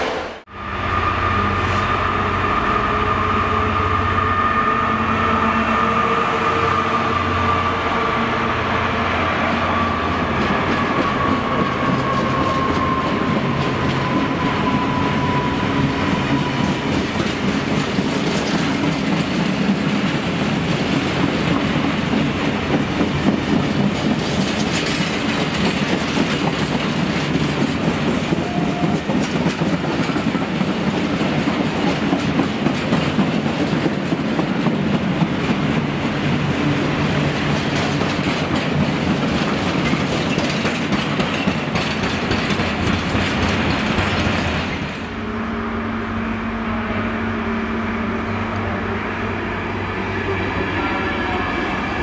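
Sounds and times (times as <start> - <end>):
diesel locomotive engine droning: 0.0 - 52.0.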